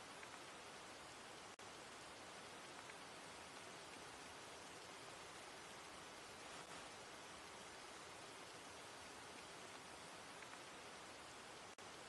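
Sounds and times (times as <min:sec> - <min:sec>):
faint raindrop ticks: 0:00.0 - 0:11.8
rain hiss: 0:00.0 - 0:12.0.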